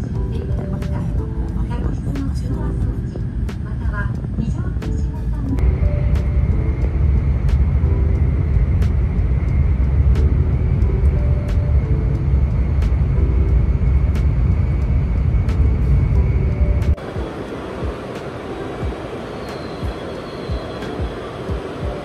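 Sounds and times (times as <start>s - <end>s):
train rumble in a tunnel: 0.0s - 22.0s.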